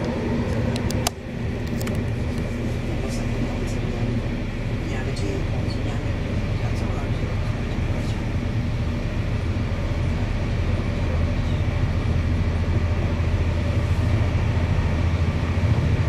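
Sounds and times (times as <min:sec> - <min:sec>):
faint train whine: 0:00.0 - 0:16.0
train wheels rumbling on rail: 0:00.0 - 0:16.0.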